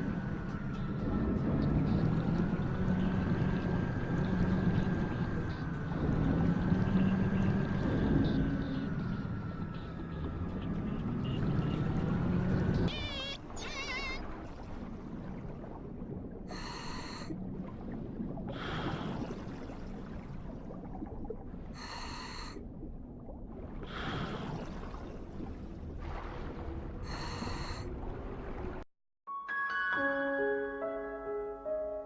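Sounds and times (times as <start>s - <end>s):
underwater rumble: 0.0s - 28.8s.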